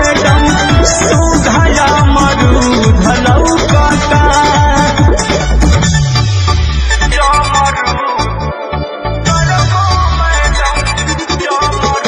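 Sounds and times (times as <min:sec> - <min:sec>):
dance song with electronic beat: 0:00.0 - 0:08.5, 0:09.2 - 0:12.0
deep bass sweep: 0:00.0 - 0:08.5, 0:09.2 - 0:11.4.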